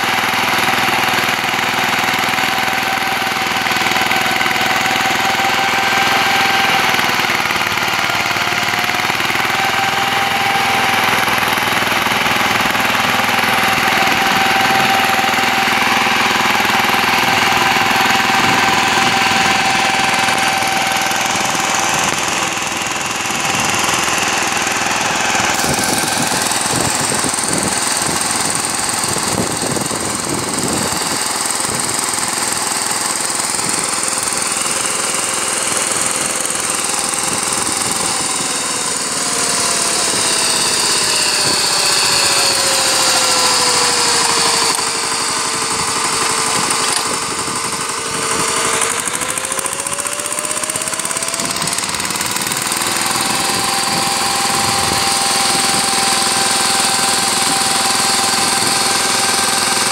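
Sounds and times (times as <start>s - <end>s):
diesel engine running under load: 0.0s - 59.9s
rotary tines churning soil: 0.0s - 59.9s.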